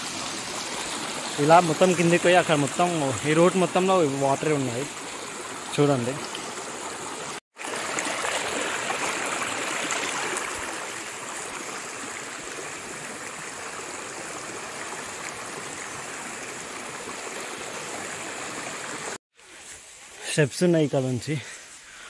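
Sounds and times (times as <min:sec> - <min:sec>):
stream water rushing: 0:00.0 - 0:19.7.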